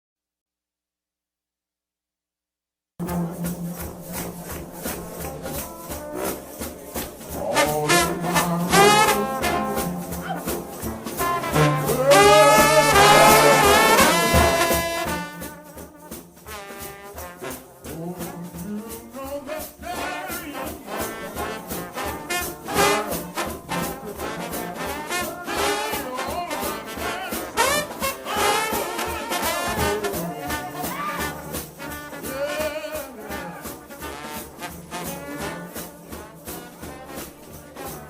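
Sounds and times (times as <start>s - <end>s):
brass band playing: 3.0s - 38.0s
live gospel music: 3.0s - 38.0s.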